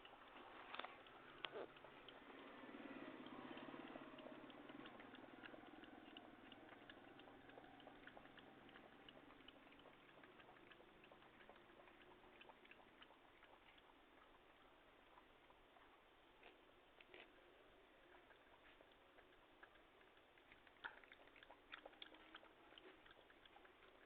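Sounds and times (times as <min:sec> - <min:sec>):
dog lapping water: 0:00.0 - 0:15.9, 0:18.1 - 0:24.0.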